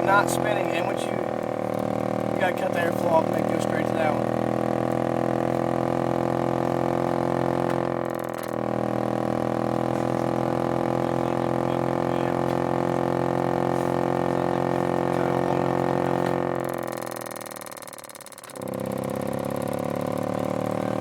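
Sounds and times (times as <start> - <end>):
heater fan motor whining: 0.0 - 21.0.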